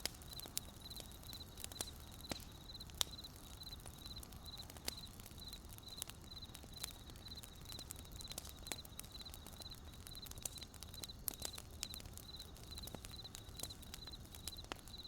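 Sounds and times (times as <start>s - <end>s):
campfire crackling and popping: 0.0s - 15.0s
cricket chirping: 0.1s - 15.0s.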